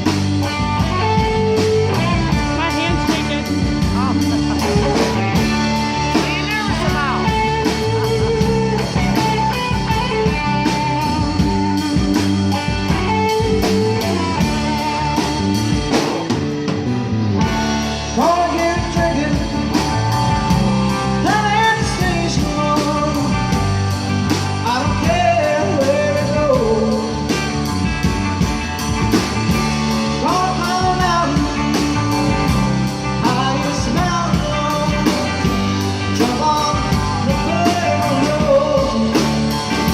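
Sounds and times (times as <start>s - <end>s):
live blues-rock band: 0.0s - 39.9s
person singing: 0.8s - 15.5s, 18.1s - 23.7s, 24.6s - 27.5s, 30.1s - 39.9s.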